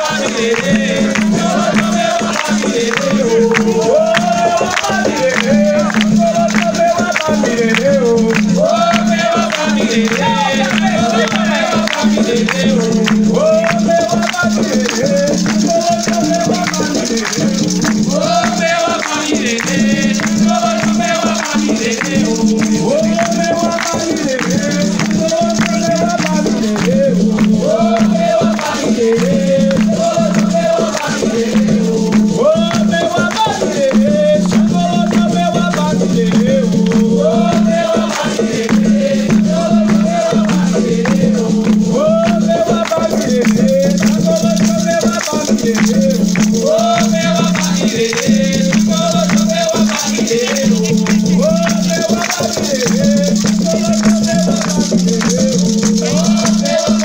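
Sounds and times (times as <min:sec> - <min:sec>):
chant sung as a melody: 0:00.0 - 0:57.0
percussion rhythm: 0:00.0 - 0:57.0
shaken rattles: 0:00.0 - 0:57.0.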